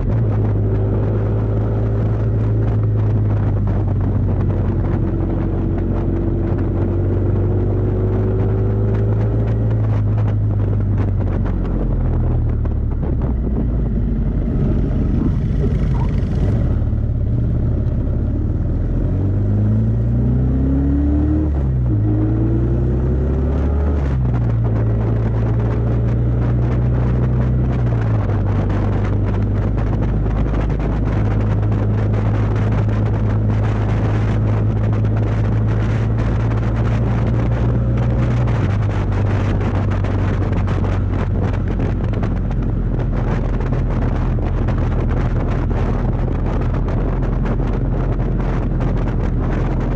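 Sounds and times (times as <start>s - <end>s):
motorcycle engine running: 0.0s - 19.1s, 24.3s - 49.9s.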